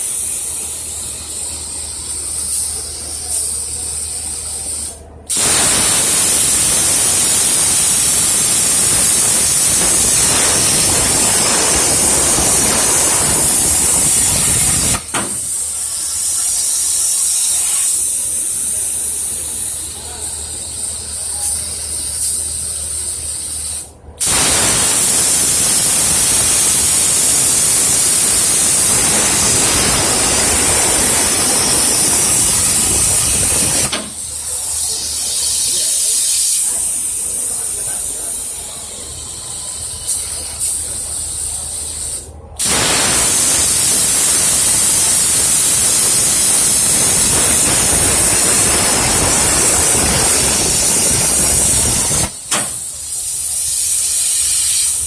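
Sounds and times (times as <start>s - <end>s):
cutting torch hissing: 0.0s - 55.0s.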